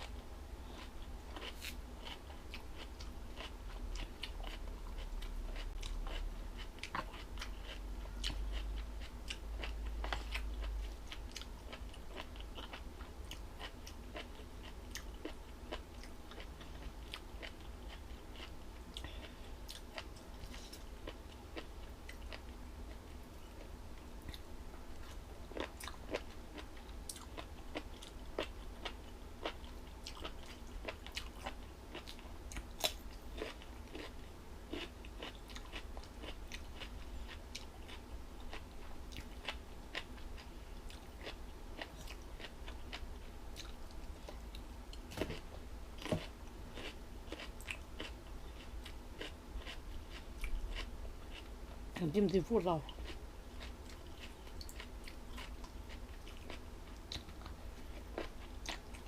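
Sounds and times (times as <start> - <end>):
crunchy chewing: 0.0 - 59.0
steady low hum: 0.0 - 59.0.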